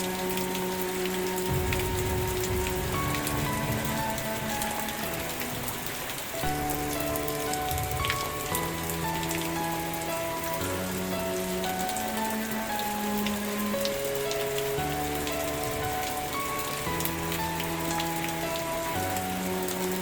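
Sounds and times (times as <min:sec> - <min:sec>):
soft music of held chords: 0:00.0 - 0:20.0
steady rain falling: 0:00.0 - 0:20.0.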